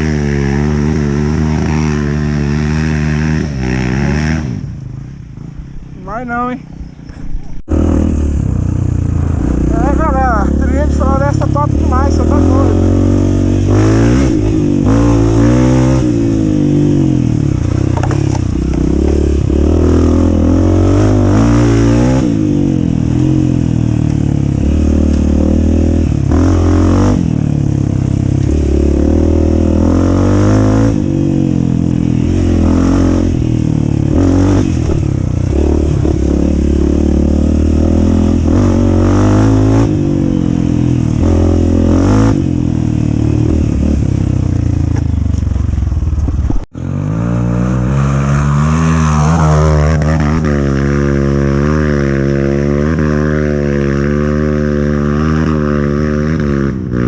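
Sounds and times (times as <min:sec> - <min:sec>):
dirt bike engine revving: 0:00.0 - 0:07.0, 0:07.7 - 0:45.4, 0:46.6 - 0:57.0.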